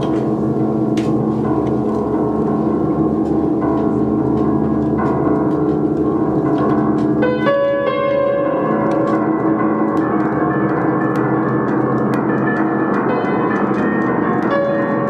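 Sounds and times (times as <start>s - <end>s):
upright piano played loudly: 0.0s - 15.0s.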